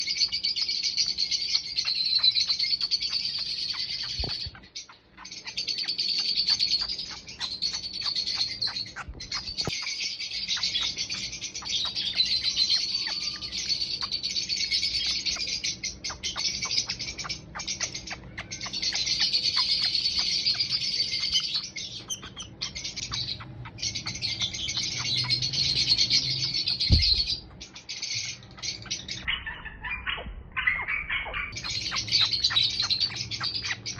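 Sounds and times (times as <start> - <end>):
baby bird chirping: 0.0 - 33.9.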